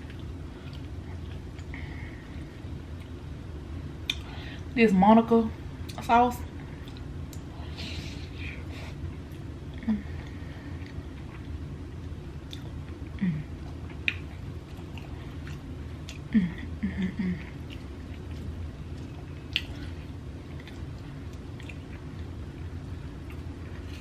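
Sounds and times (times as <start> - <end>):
chewing and wet mouth sounds: 0.0 - 3.2, 4.0 - 4.7, 5.8 - 24.0
low mm hums: 0.0 - 24.0.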